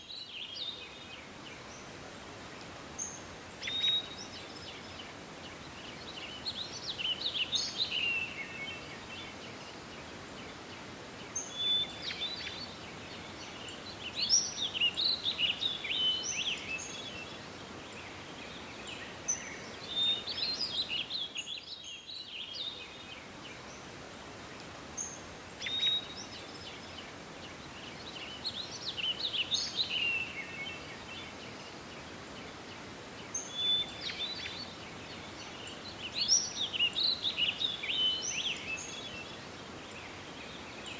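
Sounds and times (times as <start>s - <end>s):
songbirds chirping and trilling: 0.0s - 40.9s
steady outdoor hiss: 0.0s - 40.9s.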